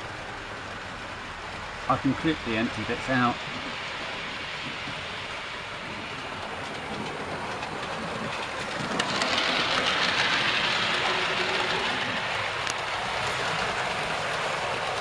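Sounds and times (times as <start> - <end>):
model train wheels rattling on rail: 0.0 - 15.0.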